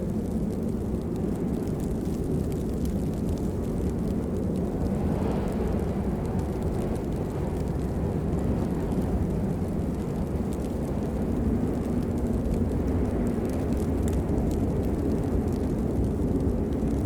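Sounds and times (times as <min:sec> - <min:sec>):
steady rain: 0:00.0 - 0:17.0
dripping water ticks: 0:00.2 - 0:17.0.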